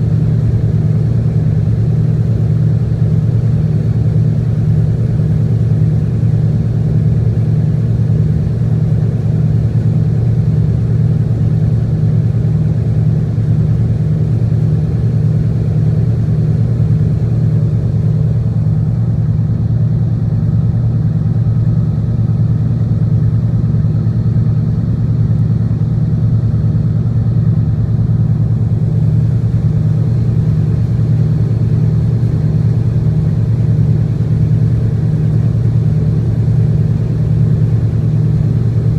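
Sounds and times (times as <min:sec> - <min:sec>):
tugboat engine droning: 0:00.0 - 0:38.9.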